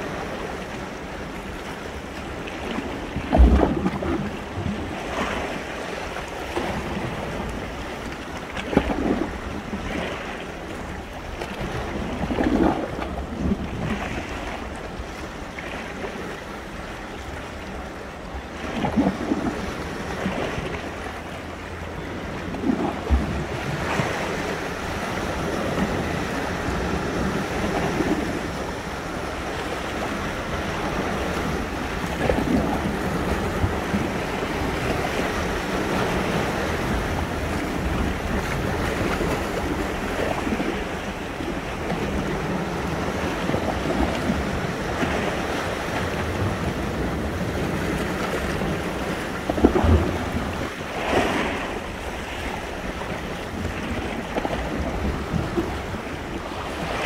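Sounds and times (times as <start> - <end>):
sea waves on shore: 0.0 - 57.0.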